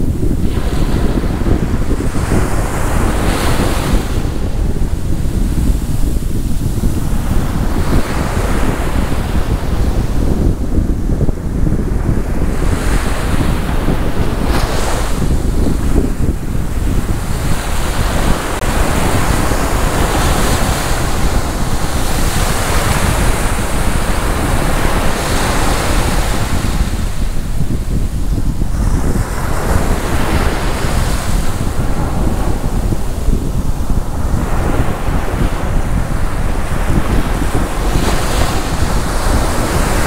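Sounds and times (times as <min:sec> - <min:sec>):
surf washing onto beach: 0:00.0 - 0:40.0
wind buffeting microphone: 0:00.0 - 0:40.0.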